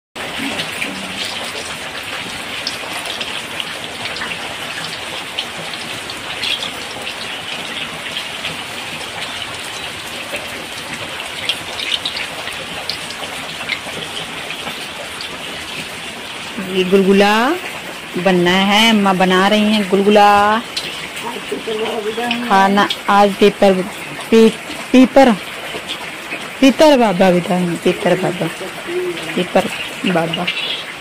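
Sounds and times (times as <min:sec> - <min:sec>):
food deep-frying in oil: 0:00.2 - 0:31.0
heavy rain falling: 0:00.2 - 0:31.0.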